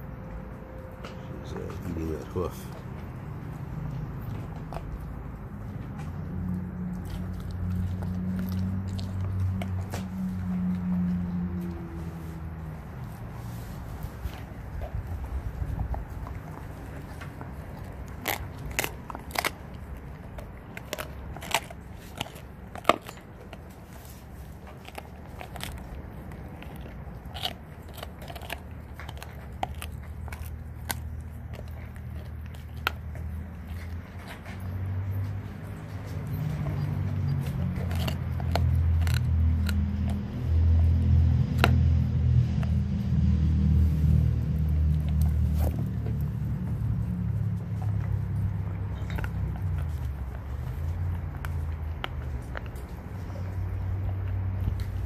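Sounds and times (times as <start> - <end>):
dog crunching on bone: 0.0 - 55.0.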